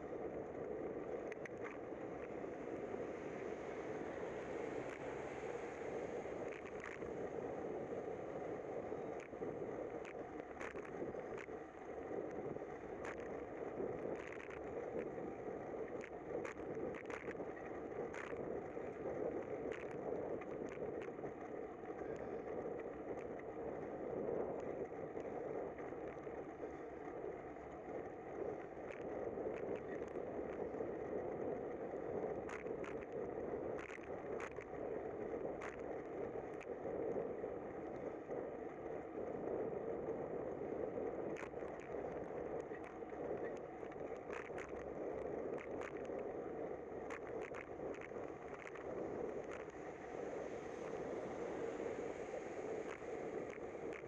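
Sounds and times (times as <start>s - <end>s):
wind: 0.0s - 54.0s
bicycle tyres on wet street: 0.3s - 19.0s, 19.6s - 54.0s.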